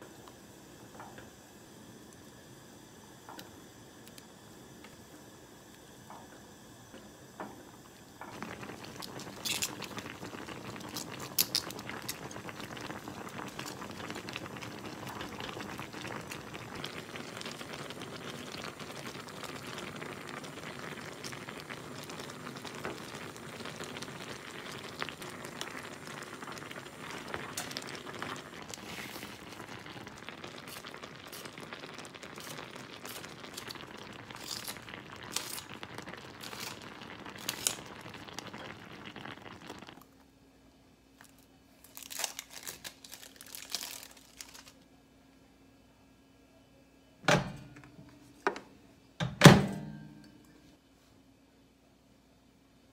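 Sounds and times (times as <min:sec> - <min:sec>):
broth bubbling in a saucepan: 0:00.0 - 0:44.7.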